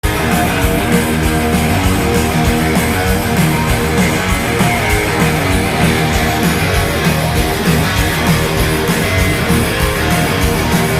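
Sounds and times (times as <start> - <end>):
hard rock music: 0.0 - 10.9.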